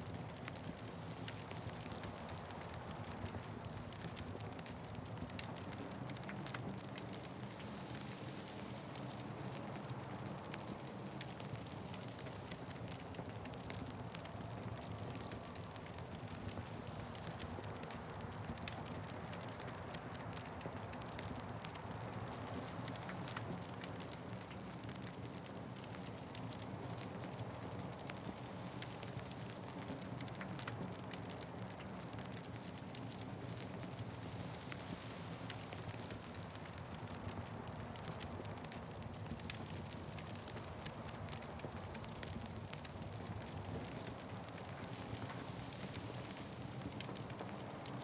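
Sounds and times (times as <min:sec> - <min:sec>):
wood fire crackling: 0:00.1 - 0:48.0.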